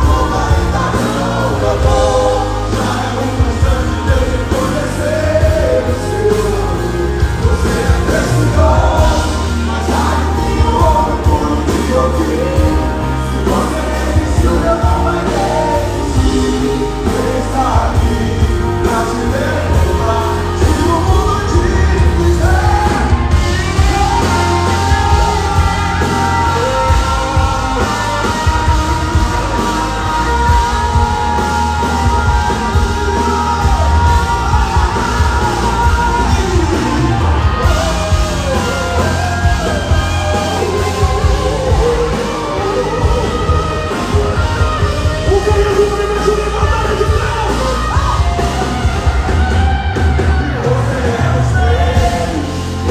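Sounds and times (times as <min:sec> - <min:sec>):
heavy bass: 0:00.0 - 0:52.9
live band and singers: 0:00.0 - 0:52.9.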